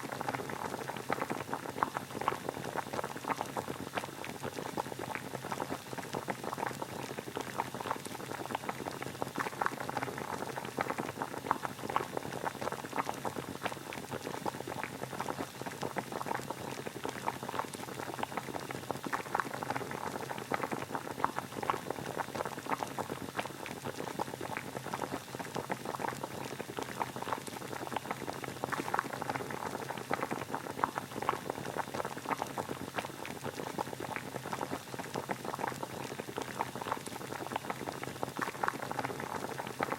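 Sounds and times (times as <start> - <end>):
water boiling: 0.0 - 39.9.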